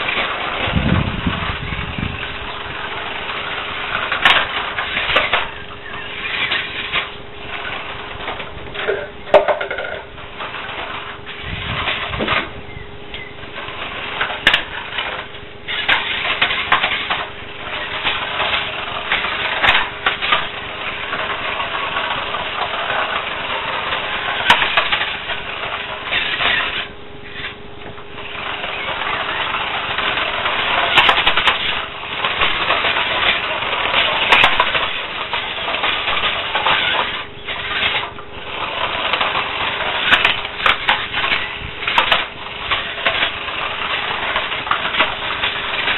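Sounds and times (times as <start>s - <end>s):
toy car motor and wheels on bricks: 0.0s - 45.9s.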